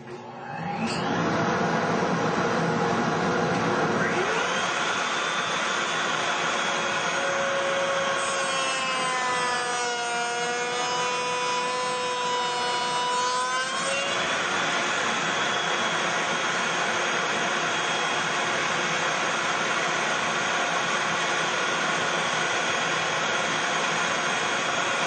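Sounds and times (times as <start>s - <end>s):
router whining: 0.0s - 25.0s
router bit cutting wood: 3.2s - 25.0s.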